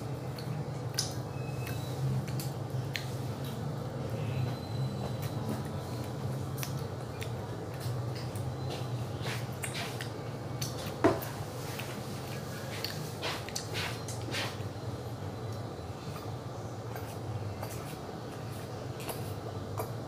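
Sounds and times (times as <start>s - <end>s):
low hum of room machinery: 0.0s - 20.0s.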